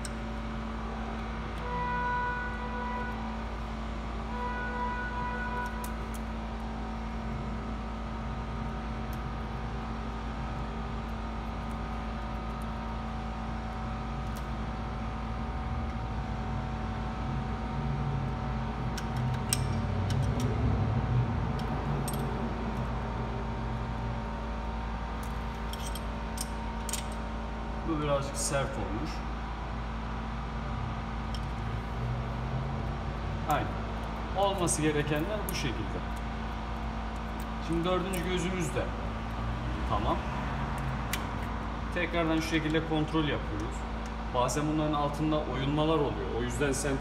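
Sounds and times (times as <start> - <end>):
steady hum: 0.0 - 47.0.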